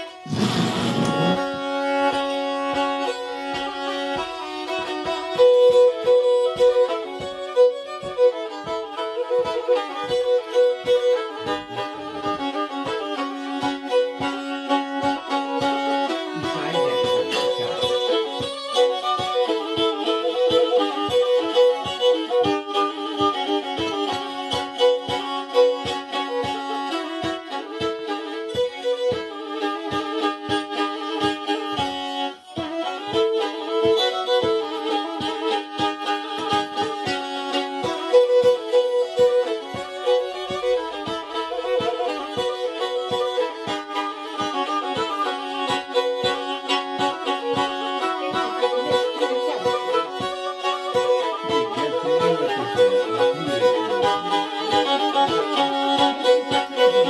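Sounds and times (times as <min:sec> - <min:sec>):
bowed fiddle tune with drone: 0:00.0 - 0:57.0.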